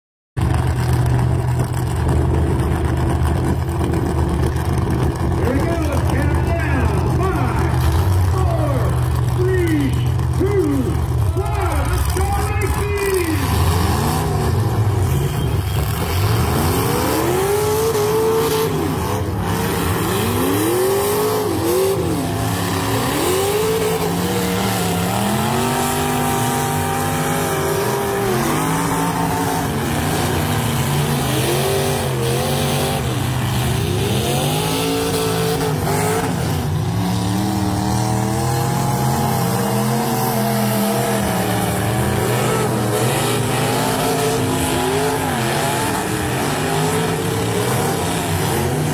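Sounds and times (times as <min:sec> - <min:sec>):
car engines revving hard: 0:00.4 - 0:48.9.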